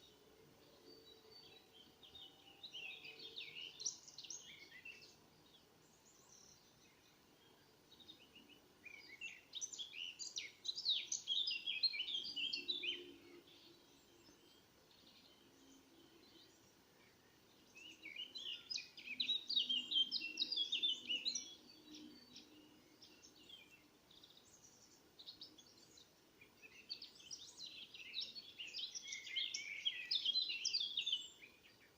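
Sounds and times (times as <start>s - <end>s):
songbird chirping: 0.0s - 31.9s.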